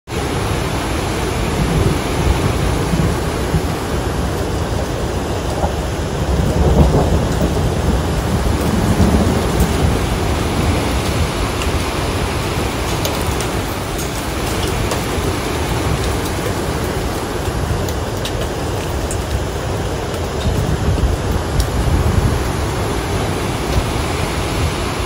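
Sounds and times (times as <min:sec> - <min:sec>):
waterfall rushing: 0:00.1 - 0:25.0.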